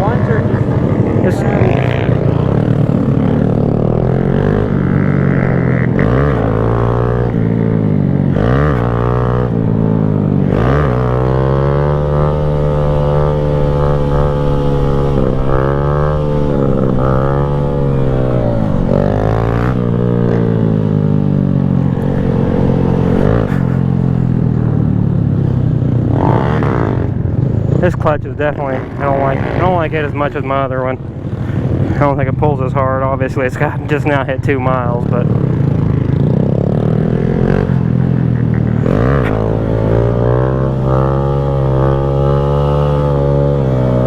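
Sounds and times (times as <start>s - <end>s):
motorcycle engine shifting gears: 0.0s - 30.4s, 34.8s - 44.0s.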